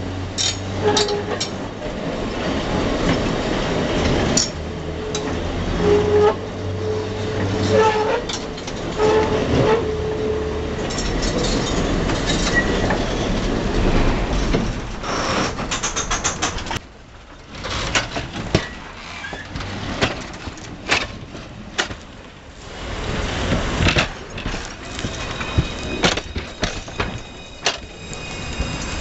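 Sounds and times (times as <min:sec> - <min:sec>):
tram rumbling on rails: 0:00.0 - 0:29.0.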